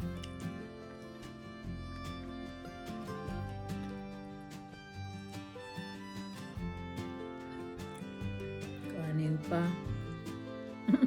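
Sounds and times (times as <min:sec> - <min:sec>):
bluegrass guitar and fiddle music: 0:00.0 - 0:11.0.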